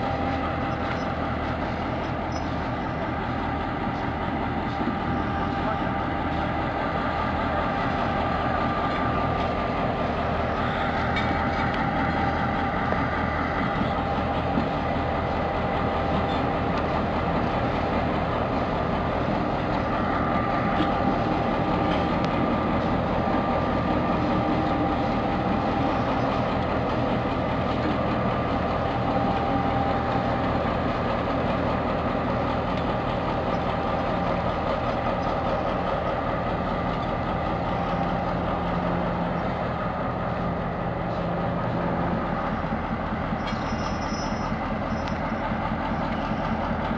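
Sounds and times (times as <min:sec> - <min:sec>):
diesel locomotive engine running: 0:00.0 - 0:46.9.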